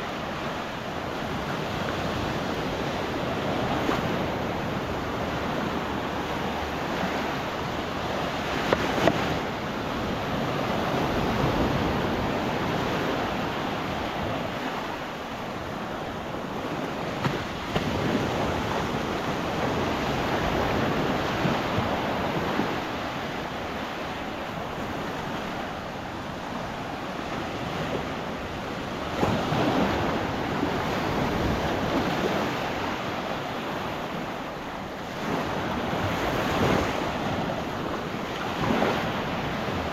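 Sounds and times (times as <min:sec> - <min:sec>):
small waves breaking on sand: 0:00.0 - 0:39.9
wind on microphone: 0:00.0 - 0:39.9.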